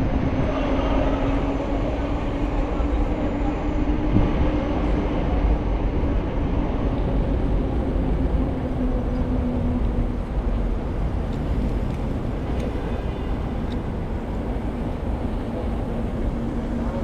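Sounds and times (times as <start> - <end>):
low traffic rumble: 0.0 - 17.0
passing vehicle drone: 0.0 - 17.0.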